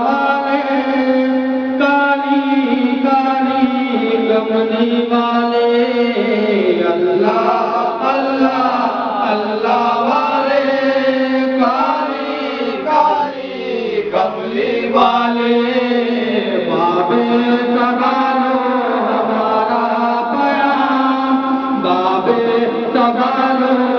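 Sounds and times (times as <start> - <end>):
man chanting into a microphone: 0.0 - 23.9.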